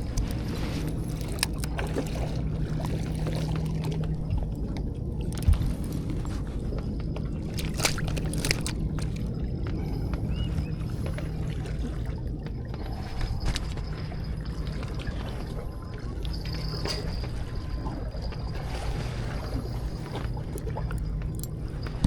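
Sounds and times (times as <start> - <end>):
low hum: 0.0 - 22.0
water sloshing and lapping: 0.0 - 22.0.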